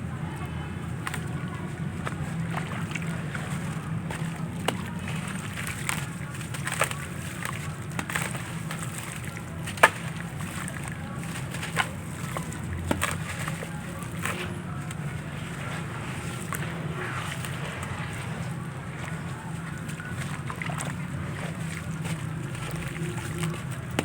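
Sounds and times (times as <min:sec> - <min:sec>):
crumble crackling: 0:00.0 - 0:24.0
steady low hum: 0:00.0 - 0:24.0.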